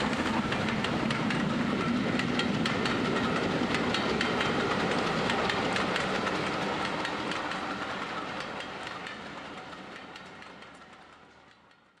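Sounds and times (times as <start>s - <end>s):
model train running sound: 0.0s - 12.0s.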